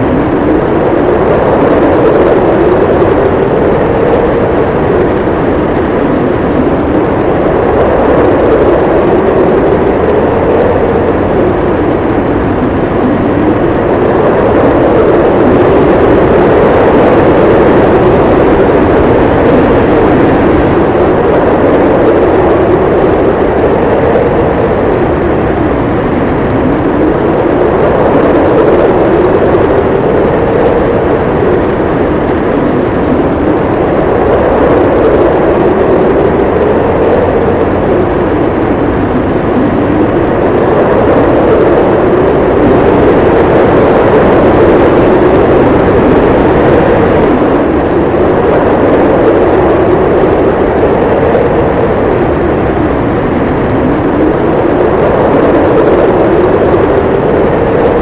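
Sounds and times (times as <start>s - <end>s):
howling wind: 0.0s - 58.0s.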